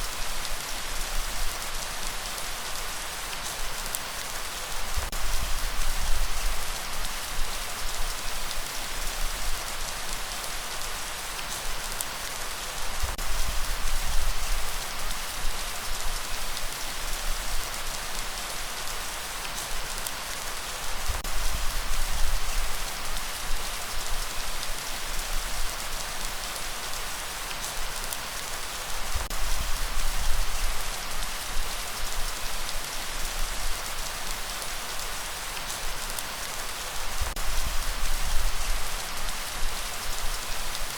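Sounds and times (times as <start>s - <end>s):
rain patter: 0.0s - 40.9s.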